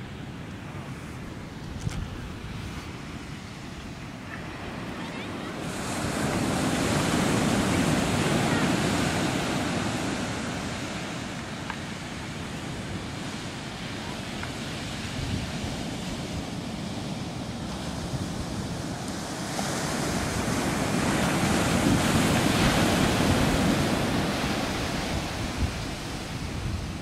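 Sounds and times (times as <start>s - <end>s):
waves breaking on beach: 0.0s - 27.0s.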